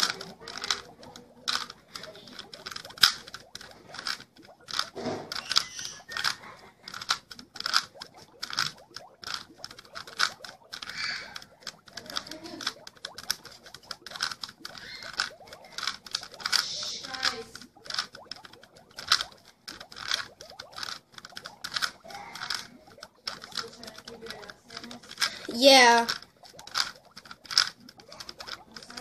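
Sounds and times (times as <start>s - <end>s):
plastic puzzle cube clicking: 0.0s - 29.0s.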